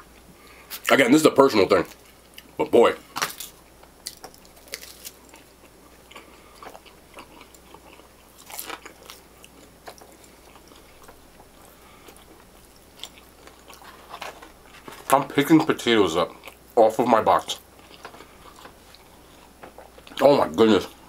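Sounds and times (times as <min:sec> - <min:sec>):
chewing pizza: 0:01.7 - 0:16.7, 0:17.4 - 0:21.0.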